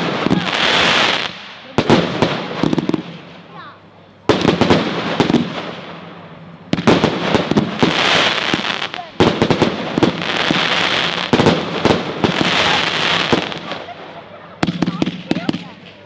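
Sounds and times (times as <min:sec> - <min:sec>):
firework bangs: 0:00.0 - 0:03.6, 0:04.3 - 0:16.0
firework crackling: 0:00.0 - 0:16.0.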